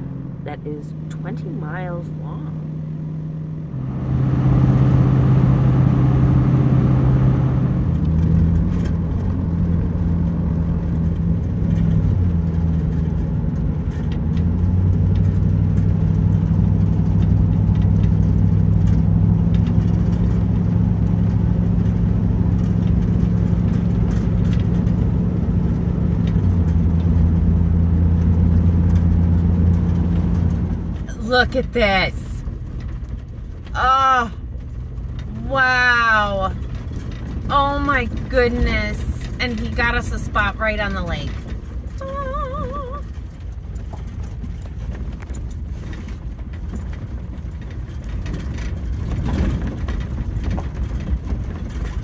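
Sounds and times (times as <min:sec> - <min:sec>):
road noise: 0:00.0 - 0:52.0
van engine humming: 0:00.0 - 0:52.0.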